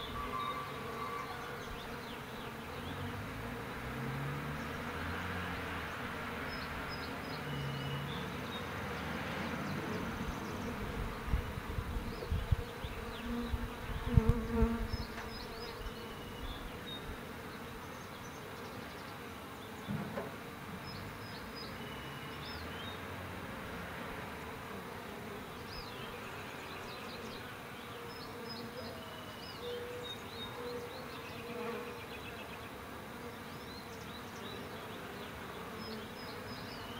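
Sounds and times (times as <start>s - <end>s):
honeybees buzzing: 0.0s - 36.9s.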